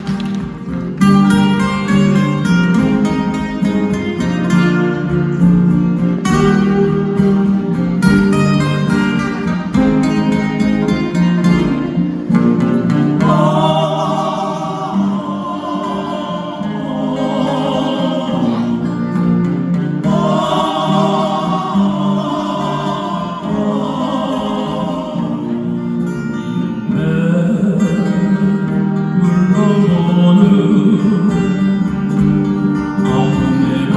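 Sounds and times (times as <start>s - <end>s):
strummed acoustic guitars: 0.0s - 33.9s.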